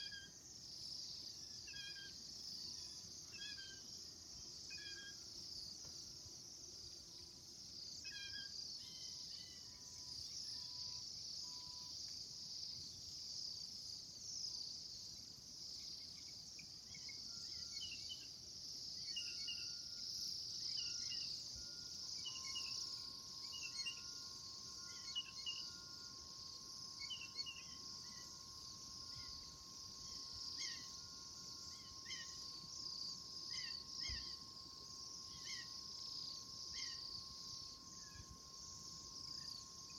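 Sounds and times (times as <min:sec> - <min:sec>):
faint steady tone: 0:00.0 - 0:39.9.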